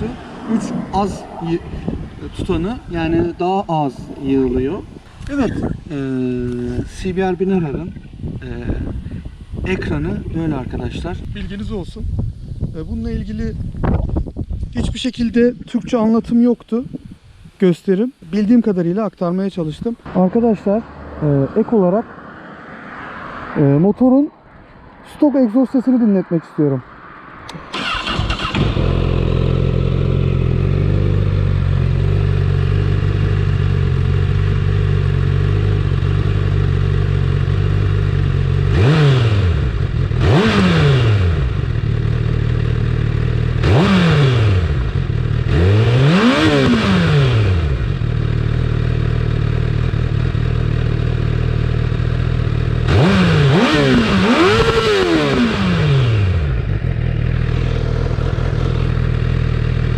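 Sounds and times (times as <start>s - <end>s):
motorcycle engine idling and revving: 0.0s - 17.5s, 18.1s - 59.9s.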